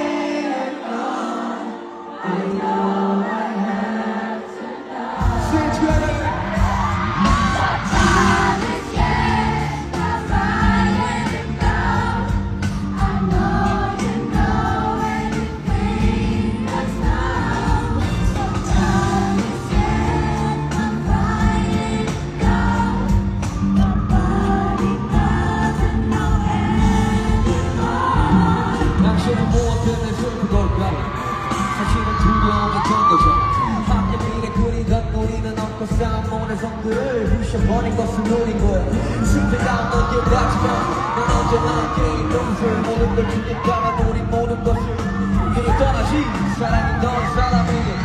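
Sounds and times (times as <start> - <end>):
pop song with singing: 0.0 - 48.0
heavy bass and drum beat: 5.2 - 48.0.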